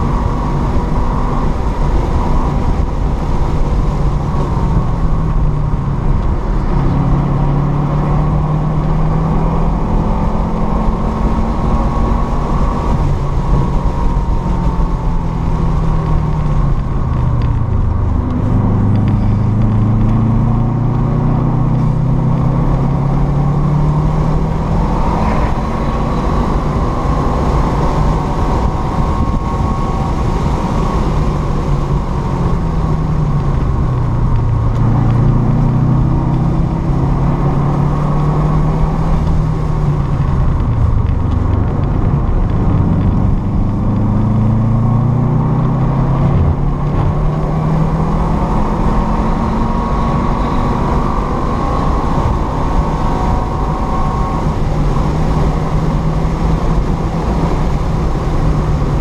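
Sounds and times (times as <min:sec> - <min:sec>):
car engine at high revs: 0:00.0 - 0:59.0
wind and road noise: 0:00.0 - 0:59.0.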